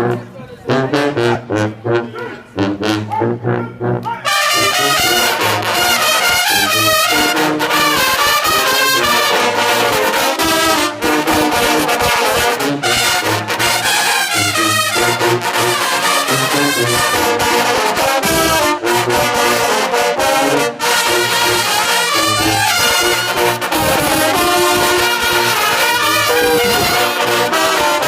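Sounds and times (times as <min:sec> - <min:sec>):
brass band playing loudly: 0:00.0 - 0:28.0.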